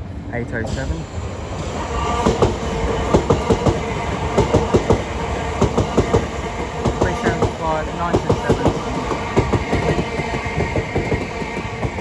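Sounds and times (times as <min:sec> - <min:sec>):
train rumble: 0:00.0 - 0:12.0
train wheels clattering over rail joints: 0:01.9 - 0:12.0.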